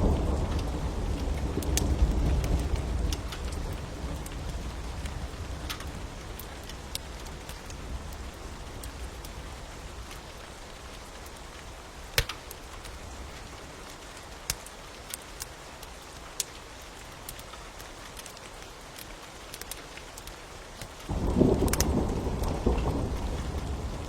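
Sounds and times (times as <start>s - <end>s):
rain hiss: 0.0s - 24.0s
wood fire crackling and popping: 0.0s - 24.0s.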